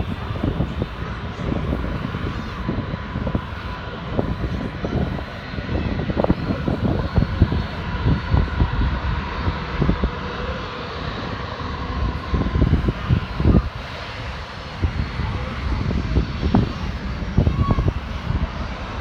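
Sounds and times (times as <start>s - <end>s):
faint steady whine: 0.0s - 19.0s
jet engines at takeoff power: 0.0s - 19.0s.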